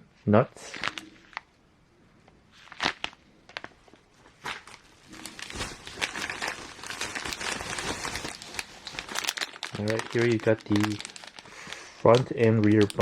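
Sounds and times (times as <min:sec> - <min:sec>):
plastic packaging crinkling: 0:00.6 - 0:01.6, 0:02.5 - 0:13.0.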